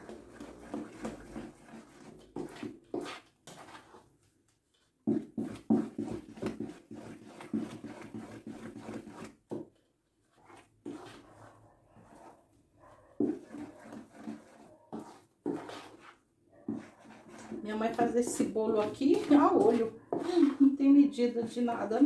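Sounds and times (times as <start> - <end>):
wooden spoon beating batter in bowl: 0.0 - 12.4, 13.1 - 22.0.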